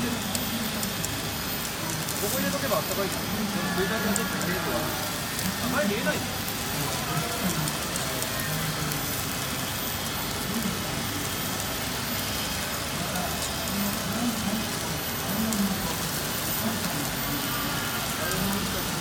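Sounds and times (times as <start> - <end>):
batter sizzling on a griddle: 0.0 - 19.0.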